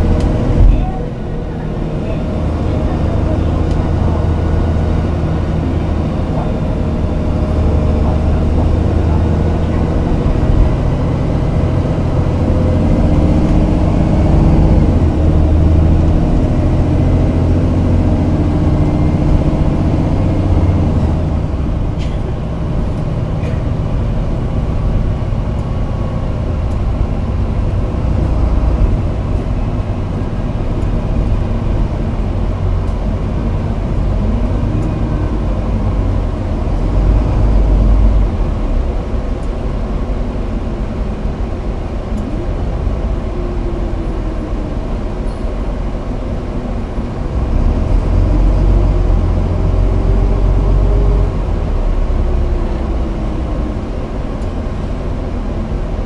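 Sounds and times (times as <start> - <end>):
bus engine and road rumble: 0.0 - 56.0
drivetrain whine: 0.0 - 56.0.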